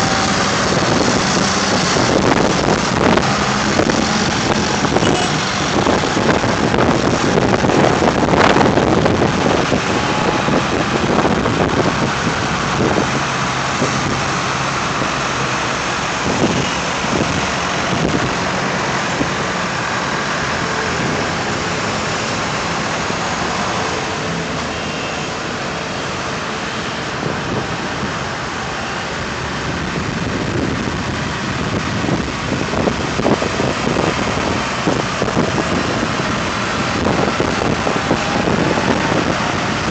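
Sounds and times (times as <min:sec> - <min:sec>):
tractor engines driving past: 0:00.0 - 0:39.9.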